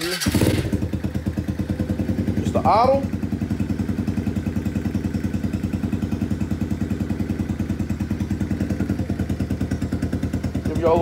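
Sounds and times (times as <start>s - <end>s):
single-cylinder engine idling: 0.0s - 11.0s.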